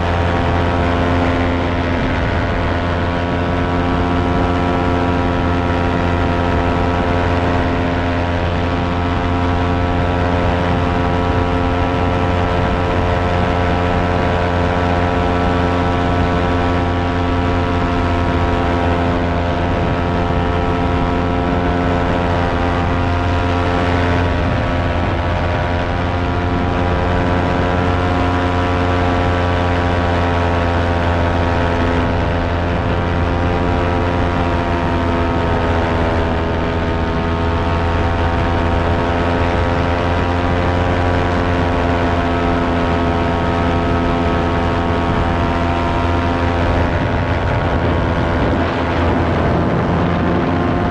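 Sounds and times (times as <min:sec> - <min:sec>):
fan motor humming: 0:00.0 - 0:50.9.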